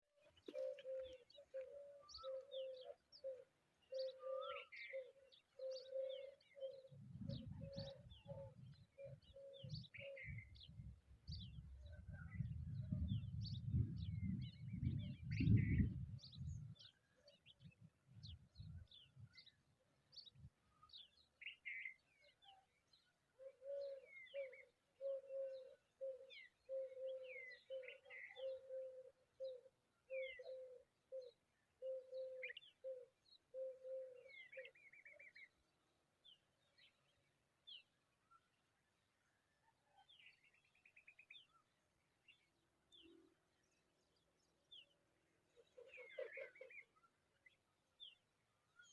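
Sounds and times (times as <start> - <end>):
wild birds chirping: 0.2 - 48.9.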